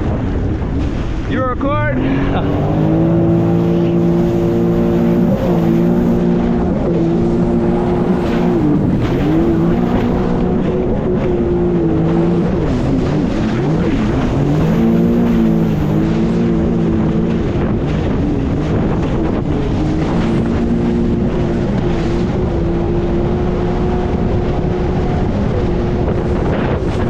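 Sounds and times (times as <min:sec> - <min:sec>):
jet ski engine running hard: 0:00.0 - 0:27.0
water noise: 0:00.0 - 0:27.0
wind noise: 0:00.0 - 0:27.0.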